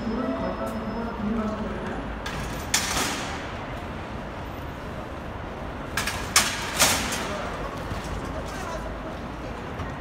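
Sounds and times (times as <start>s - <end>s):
bus engines idling: 0.0s - 10.0s.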